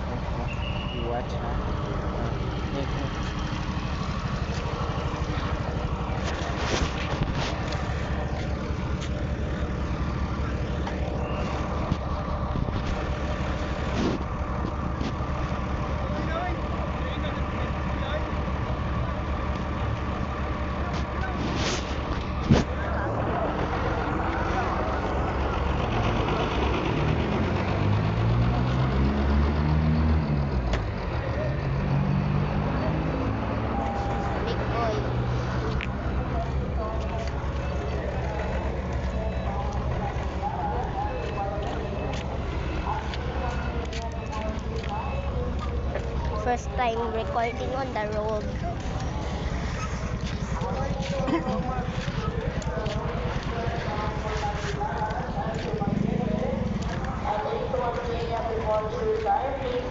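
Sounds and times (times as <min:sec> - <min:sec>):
road noise: 0:00.0 - 0:59.9
truck engine rumbling: 0:00.0 - 0:59.9.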